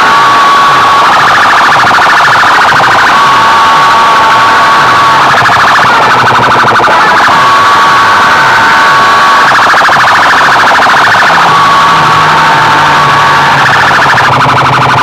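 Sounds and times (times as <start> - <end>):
electronic siren alarm tone: 0.0 - 15.0.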